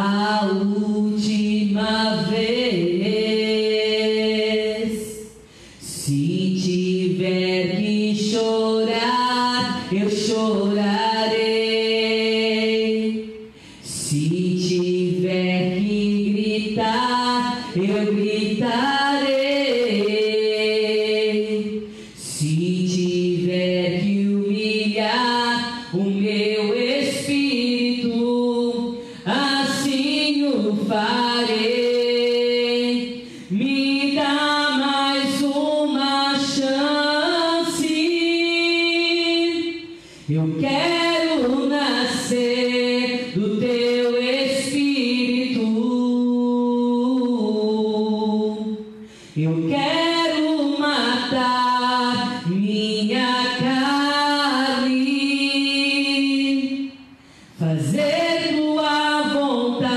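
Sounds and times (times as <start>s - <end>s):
woman singing unaccompanied: 0.0s - 59.9s.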